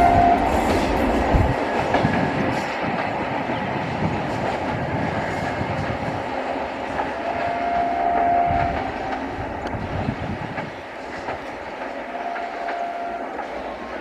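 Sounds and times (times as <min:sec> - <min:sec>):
train wheels clicking over rail joints: 0:00.0 - 0:14.0
train whine: 0:00.0 - 0:14.0.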